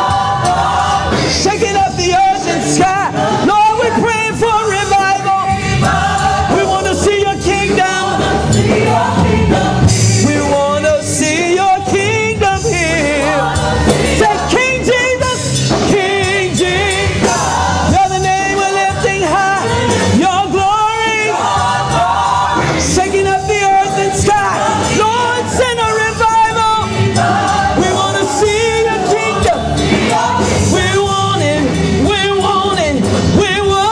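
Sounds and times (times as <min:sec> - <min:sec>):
instrumental backing music: 0:00.0 - 0:33.9.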